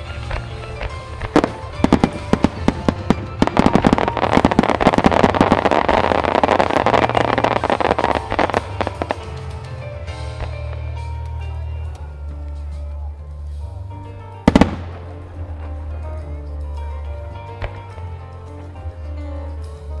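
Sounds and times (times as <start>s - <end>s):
firework shells bursting: 0.0s - 12.8s, 14.4s - 19.8s
music with steady bass line: 0.0s - 20.0s.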